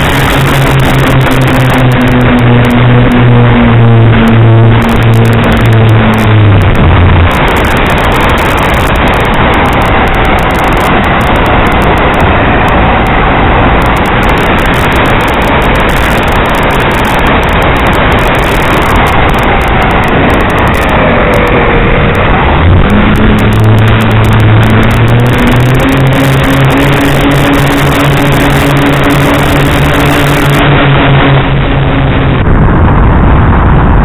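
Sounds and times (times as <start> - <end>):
faint motor whine: 0.0 - 34.0
rush of airflow: 0.0 - 34.0.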